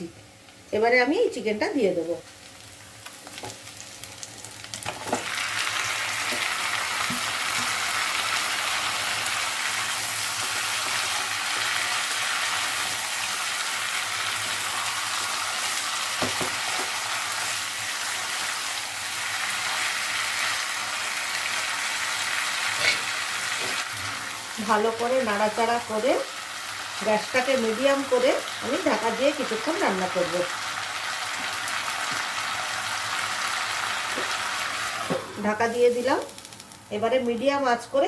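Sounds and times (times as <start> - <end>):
chicken sizzling in hot oil: 0.3 - 37.9.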